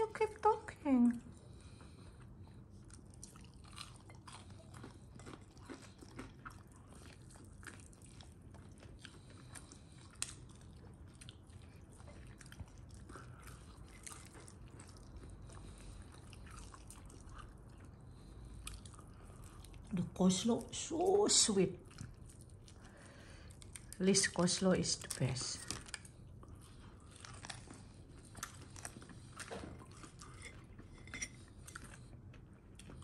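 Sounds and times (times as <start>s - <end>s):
biting and chewing fried chicken: 1.2s - 33.0s.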